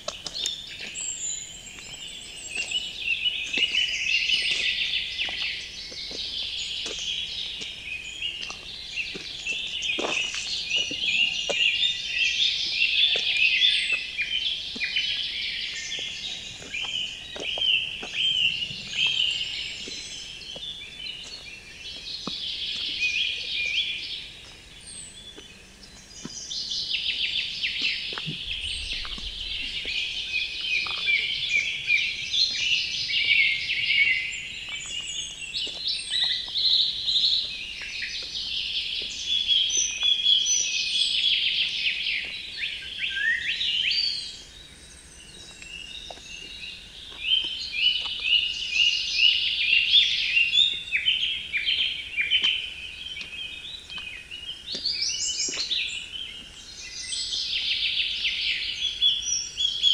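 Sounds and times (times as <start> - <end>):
songbirds chorus: 0.0 - 59.9.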